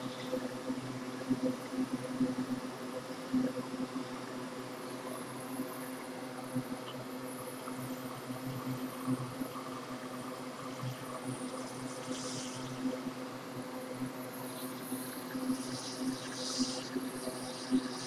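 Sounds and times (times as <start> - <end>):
hot air station hum and hiss: 0.0 - 18.0.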